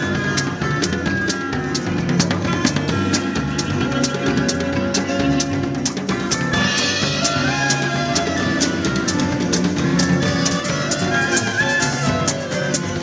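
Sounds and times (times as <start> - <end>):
bass: 0.0 - 13.0
drum kit beat: 0.0 - 13.0
held melody line: 0.0 - 13.0.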